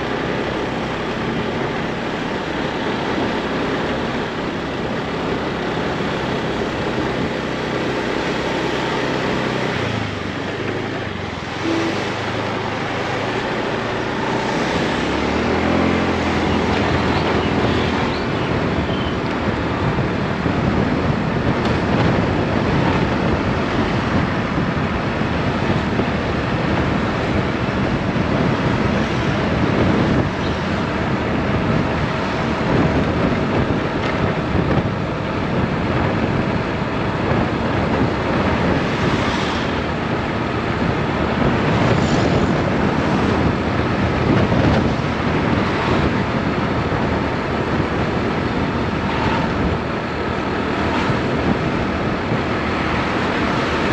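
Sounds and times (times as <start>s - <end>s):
motorbike engine: 0.0s - 53.9s
road noise: 0.0s - 53.9s
wind rushing over microphone: 0.0s - 53.9s.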